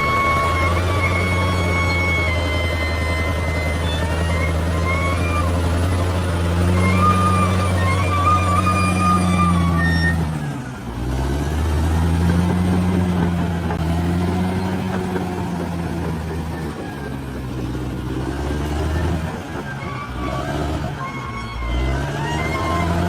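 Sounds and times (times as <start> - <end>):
bulldozer diesel engine lugging: 0.0 - 23.0.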